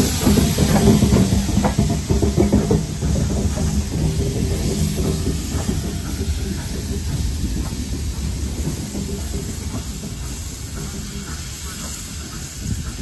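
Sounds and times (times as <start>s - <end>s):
steam hissing: 0.0s - 13.0s
steam locomotive rumbling past: 0.0s - 13.0s.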